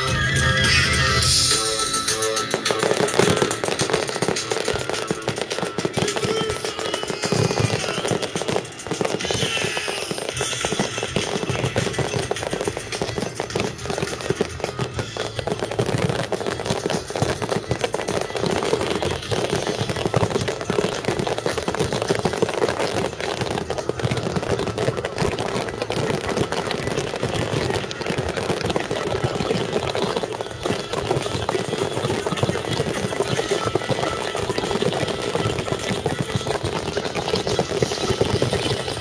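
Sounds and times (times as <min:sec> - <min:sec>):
fireworks bursting and crackling: 0:00.0 - 0:39.0.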